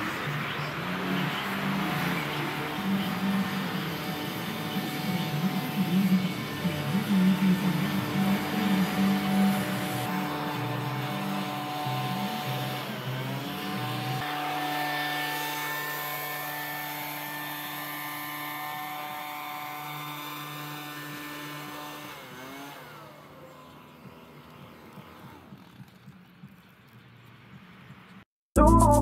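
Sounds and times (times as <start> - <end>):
leaf blower engine: 0.0 - 26.6.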